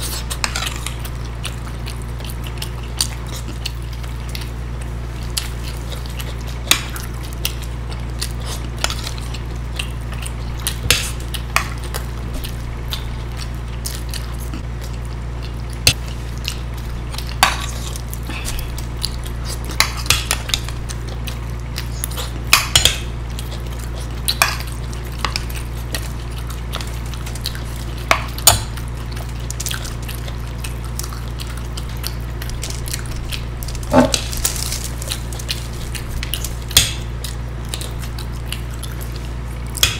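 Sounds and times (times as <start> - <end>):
people eating: 0.0 - 39.9
steady low hum: 0.0 - 39.9.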